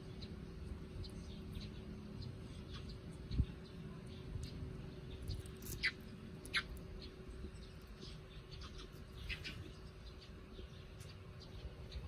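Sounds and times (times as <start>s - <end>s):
faint hum: 0.0s - 12.0s
small bird chirping: 0.0s - 12.0s
steady low rumble: 0.0s - 12.0s.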